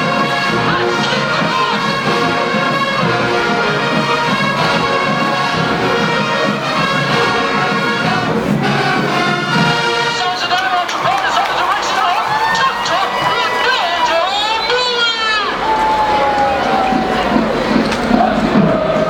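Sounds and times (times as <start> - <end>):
brass instruments sustained chords: 0.0 - 19.0
marching band playing: 0.0 - 19.0.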